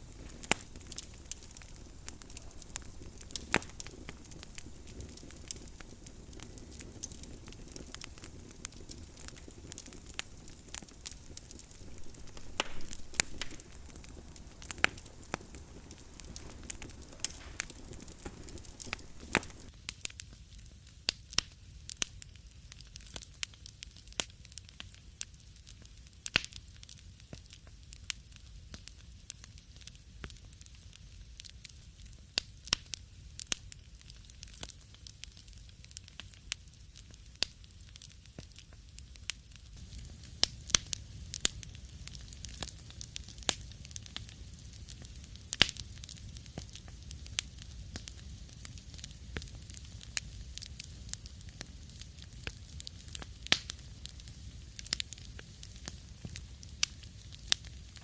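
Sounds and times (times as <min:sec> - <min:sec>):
soft hiss of fire: 0:00.0 - 0:58.0
wood fire crackling: 0:00.0 - 0:58.0.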